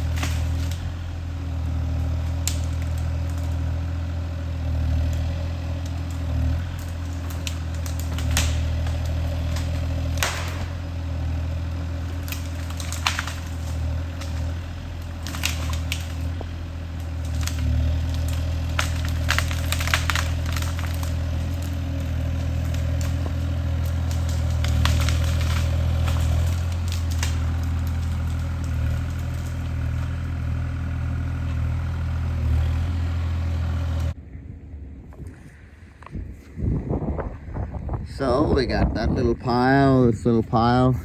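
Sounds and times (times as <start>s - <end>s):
wood cracking and snapping: 0.0s - 34.2s
diesel engine running: 0.0s - 41.0s.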